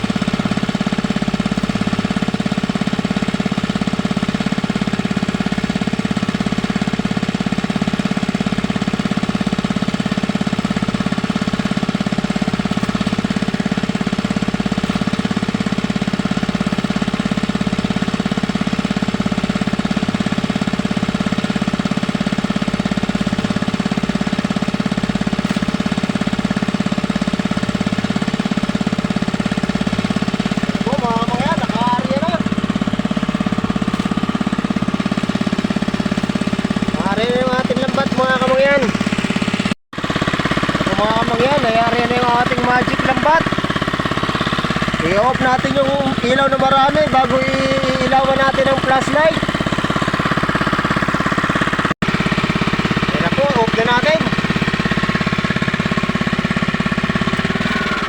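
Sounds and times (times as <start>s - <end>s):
small engine knocking: 0.0s - 58.0s.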